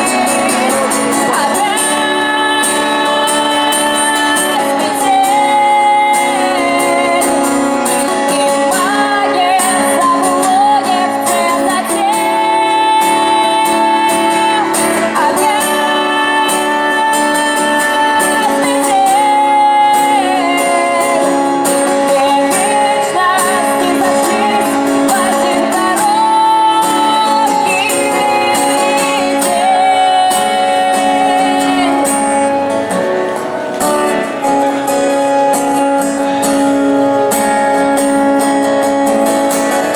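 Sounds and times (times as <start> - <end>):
guitar accompaniment: 0.0 - 39.9
person singing: 0.0 - 39.9.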